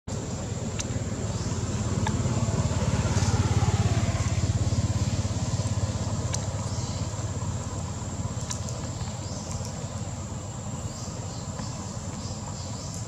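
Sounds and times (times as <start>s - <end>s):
engine running with low pulsing: 0.1s - 13.0s.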